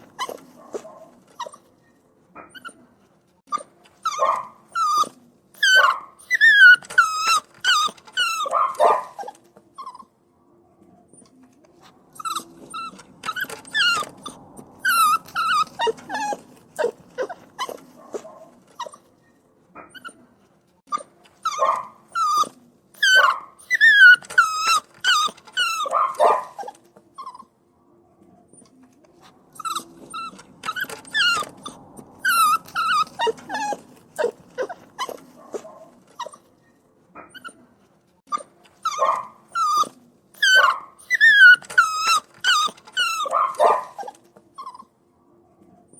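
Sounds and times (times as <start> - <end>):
puppies whining and crying: 0.0 - 1.7, 2.4 - 10.1, 12.1 - 19.1, 19.8 - 27.5, 28.6 - 36.5, 37.2 - 44.9.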